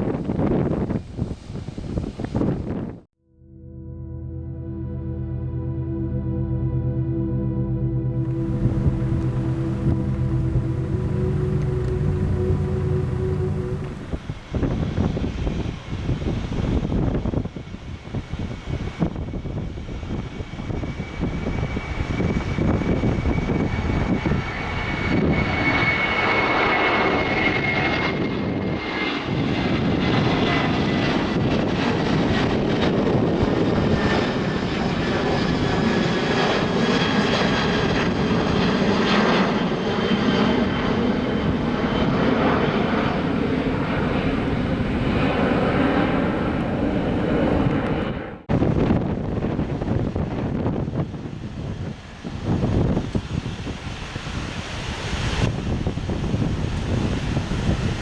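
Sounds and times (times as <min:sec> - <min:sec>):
jet engine roar with whine: 0:00.0 - 0:03.1, 0:08.1 - 0:58.0.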